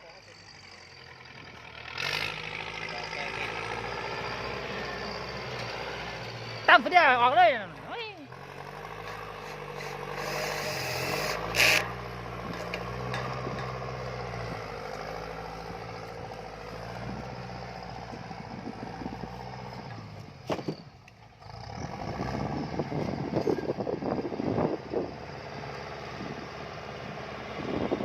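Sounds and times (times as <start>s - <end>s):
diesel tractor engine under load: 0.0s - 28.0s.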